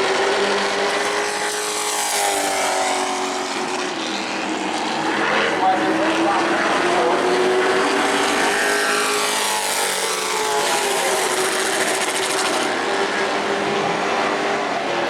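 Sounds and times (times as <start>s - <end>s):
race truck engines passing: 0.0s - 15.0s.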